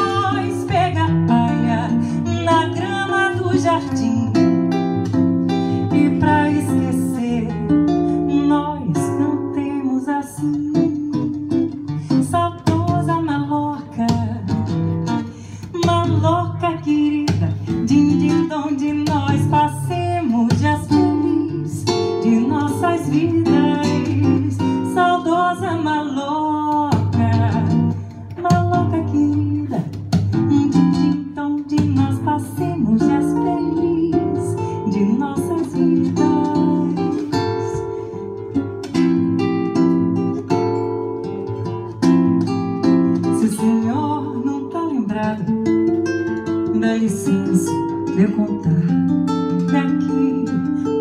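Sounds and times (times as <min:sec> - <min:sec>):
acoustic guitar: 0:00.0 - 0:51.0
woman singing: 0:00.0 - 0:51.0.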